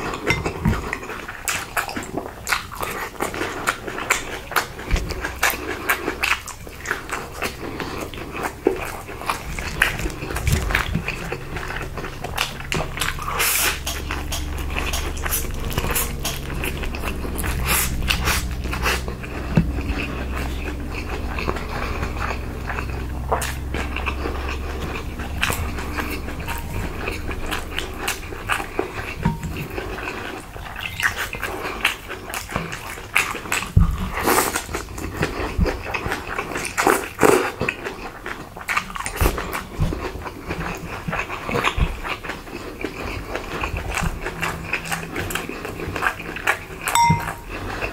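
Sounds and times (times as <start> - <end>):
low steady hum: 0.0 - 33.2, 42.6 - 47.9
chewing and crunching: 0.0 - 47.9.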